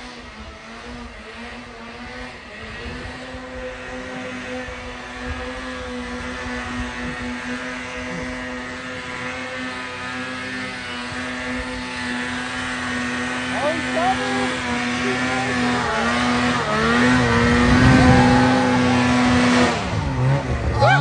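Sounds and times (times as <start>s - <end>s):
snowmobile engine high revs: 0.0s - 21.0s.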